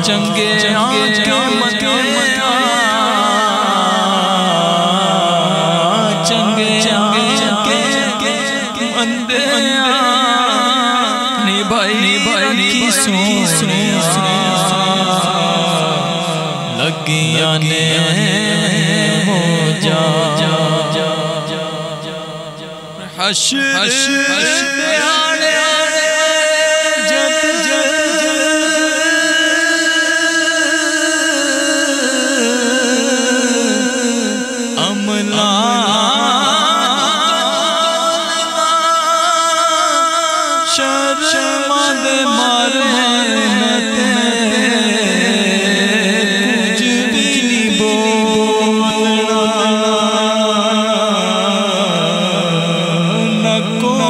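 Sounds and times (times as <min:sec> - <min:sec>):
person singing devotional chant: 0:00.0 - 0:54.0.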